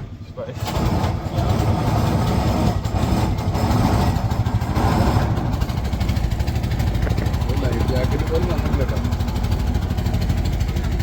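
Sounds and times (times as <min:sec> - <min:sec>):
boat engine chugging: 0:00.0 - 0:11.0.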